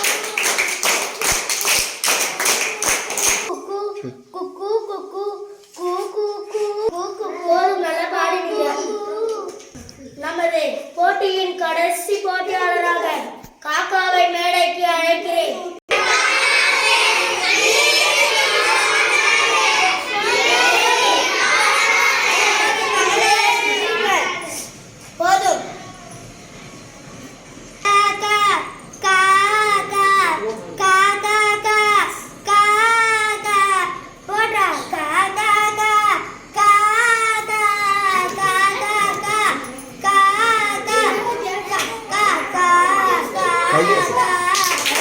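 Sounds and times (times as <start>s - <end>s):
children singing and shouting: 2.7s - 9.8s, 11.1s - 24.7s, 27.8s - 45.0s.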